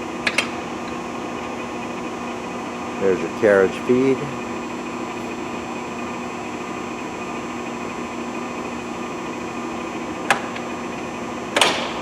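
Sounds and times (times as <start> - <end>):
lathe gear whine and hum: 0.0 - 12.0.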